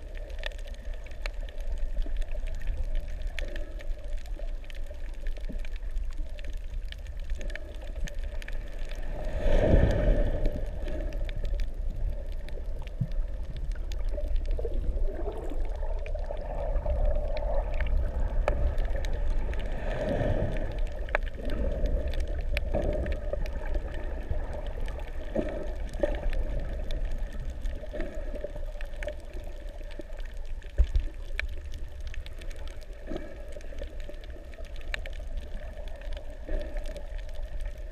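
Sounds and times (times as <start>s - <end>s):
faint clicks and crackles: 0.0s - 37.9s
muffled underwater rumble: 0.0s - 37.9s.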